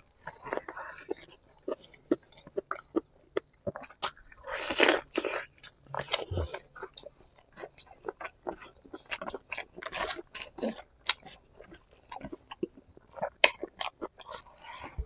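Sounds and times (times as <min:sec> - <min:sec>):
wet chewing and biting: 0:00.0 - 0:15.0.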